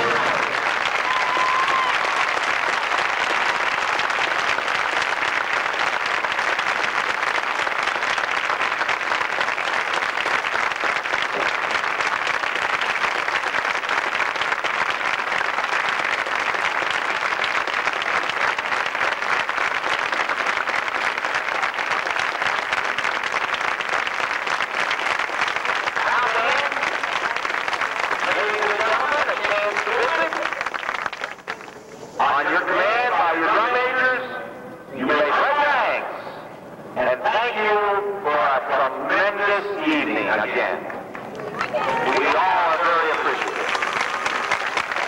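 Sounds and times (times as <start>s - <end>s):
crowd applauding: 0.0s - 33.9s, 39.9s - 45.0s.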